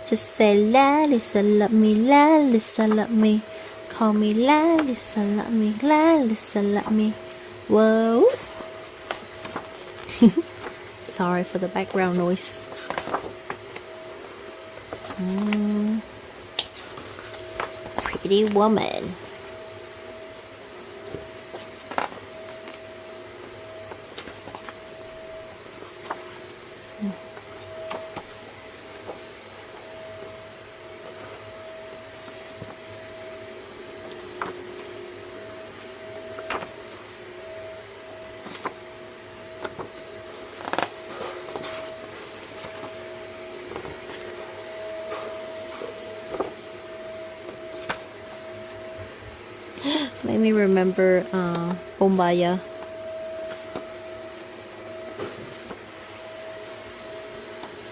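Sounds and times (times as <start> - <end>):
mechanical hum: 0.0 - 57.9.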